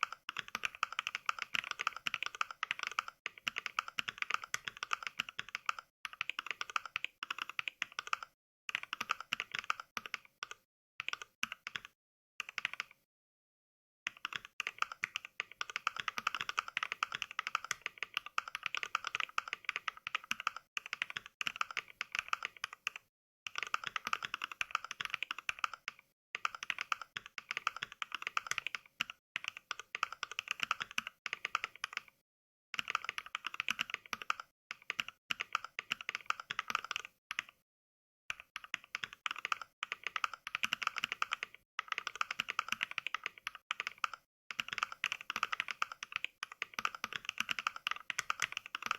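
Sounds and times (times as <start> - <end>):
mechanical keyboard typing: 0.0 - 13.0, 14.1 - 32.2, 32.8 - 37.6, 38.3 - 48.9.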